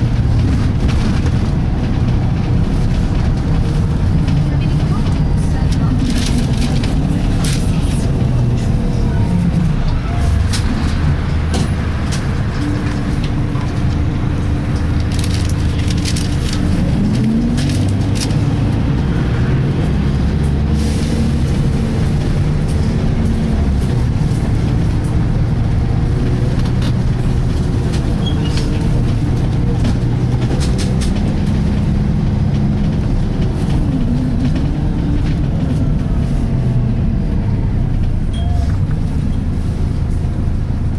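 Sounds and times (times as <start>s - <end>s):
bus engine drone: 0.0s - 40.9s.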